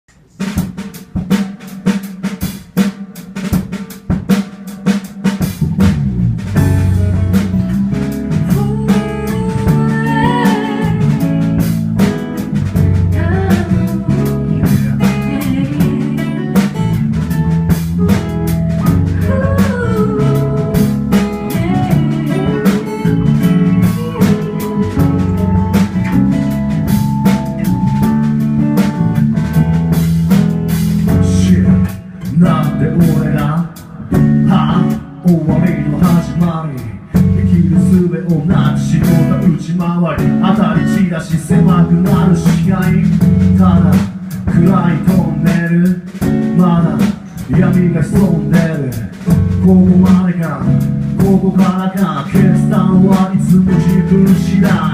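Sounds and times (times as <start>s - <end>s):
bass: 0.0s - 54.9s
drums: 0.0s - 54.9s
guitar: 0.2s - 54.9s.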